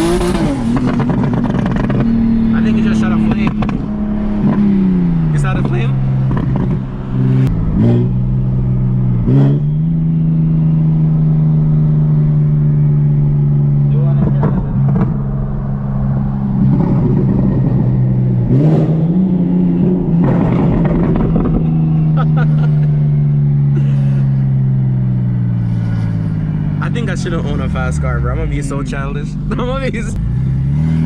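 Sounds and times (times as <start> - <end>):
car engine under way: 0.0 - 31.0.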